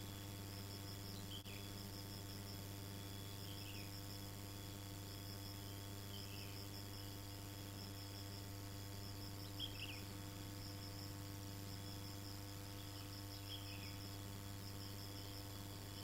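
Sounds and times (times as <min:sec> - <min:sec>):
insects chirping trill: 0:00.0 - 0:16.0.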